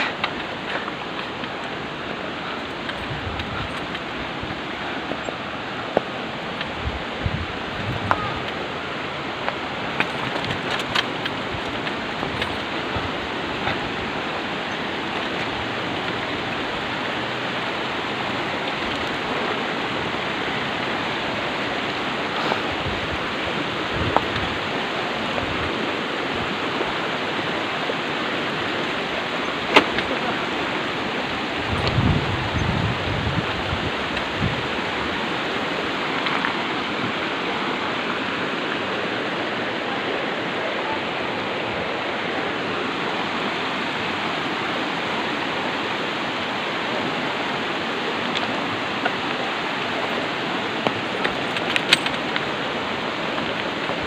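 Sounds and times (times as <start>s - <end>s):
shallow river flowing over stones: 0.0s - 54.0s.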